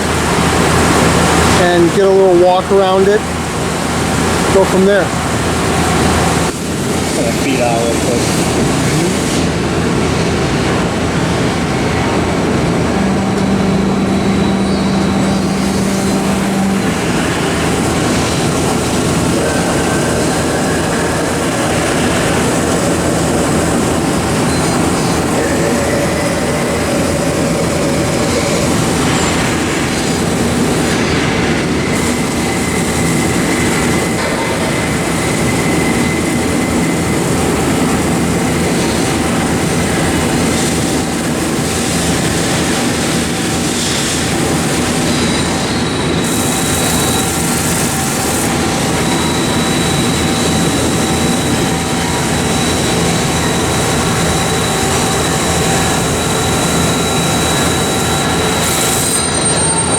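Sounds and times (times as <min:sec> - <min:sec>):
machine running loudly: 0:00.0 - 0:59.9
thin machine whine: 0:00.0 - 0:59.9.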